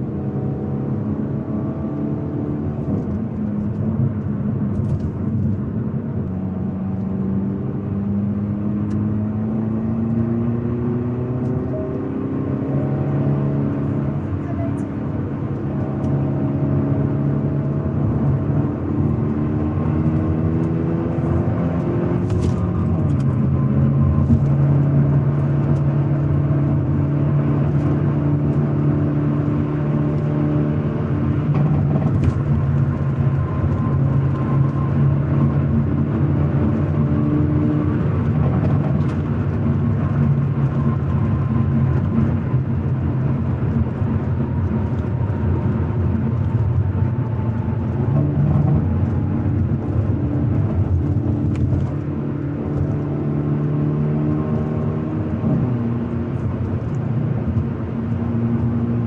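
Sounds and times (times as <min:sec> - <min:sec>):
car engine revving: 0:00.0 - 0:59.0
road noise: 0:00.0 - 0:59.0.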